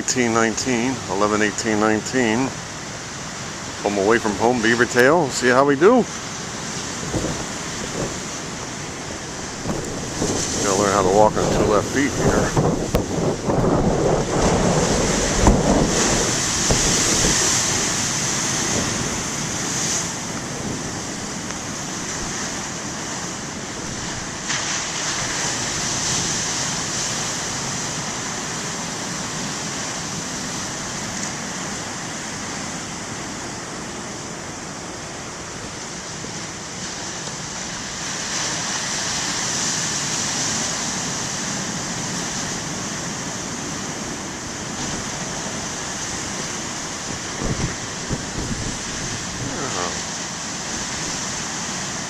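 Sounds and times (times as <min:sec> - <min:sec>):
heavy ocean surf breaking: 0:00.0 - 0:52.0.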